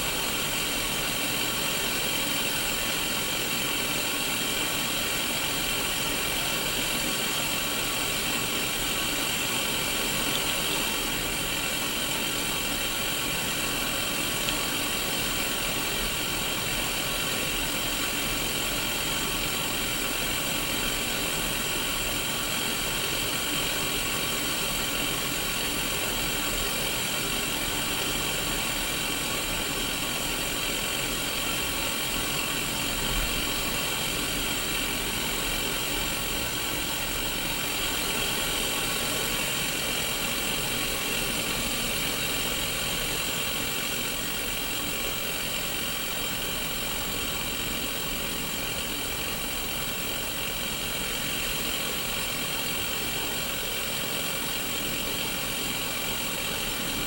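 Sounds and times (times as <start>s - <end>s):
television white noise static: 0.0s - 57.0s.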